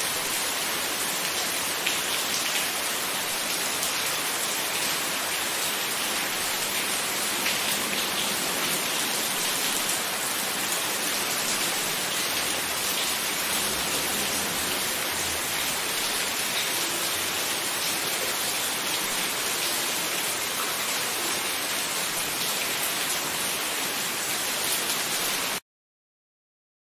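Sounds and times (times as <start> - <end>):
steady rain falling: 0.0 - 25.6.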